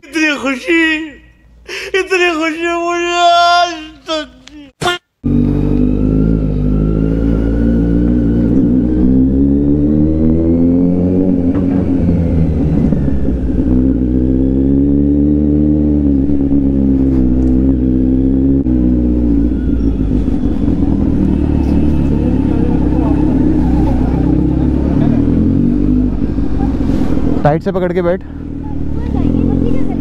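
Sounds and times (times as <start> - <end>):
motorcycle engine running: 5.2 - 27.5, 28.2 - 30.0.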